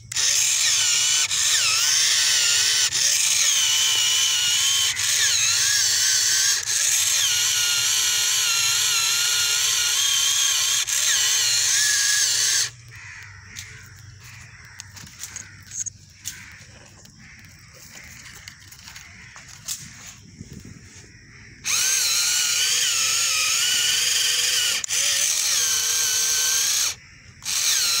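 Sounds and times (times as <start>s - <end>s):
small motor and gears whining: 0.0s - 28.0s.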